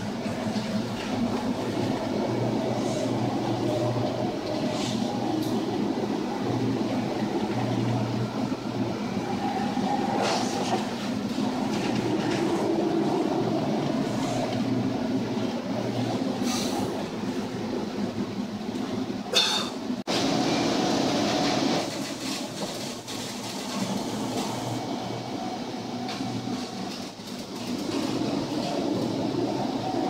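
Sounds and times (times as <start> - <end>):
wind: 0.0 - 30.0.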